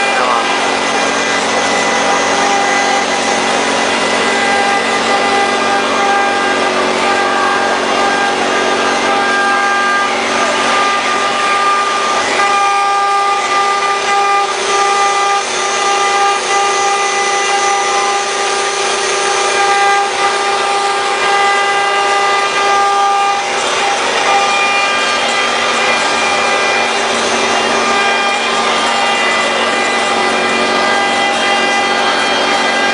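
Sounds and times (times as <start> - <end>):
engraving machine spindle whine: 0.0 - 32.9.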